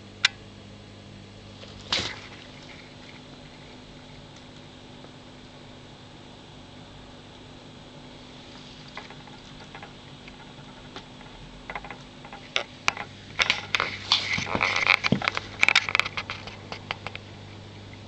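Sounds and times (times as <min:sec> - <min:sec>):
aquarium pump humming underwater: 0:00.0 - 0:18.0
crackling clicks in churning water: 0:01.6 - 0:05.4, 0:07.3 - 0:18.0.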